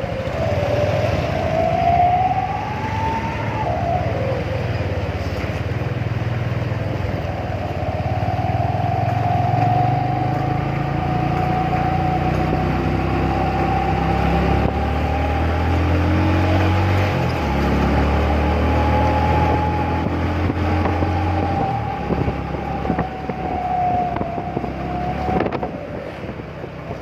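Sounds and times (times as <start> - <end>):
motorcycle engine running: 0.0 - 27.0
steady whine: 0.0 - 27.0.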